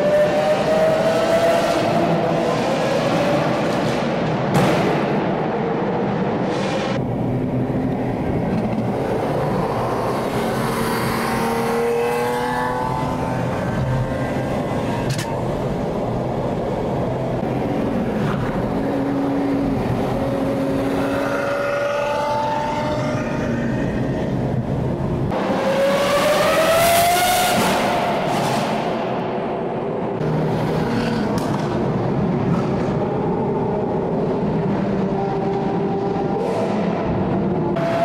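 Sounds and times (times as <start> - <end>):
car engines accelerating: 0.0 - 38.0
road and wind noise: 0.0 - 38.0.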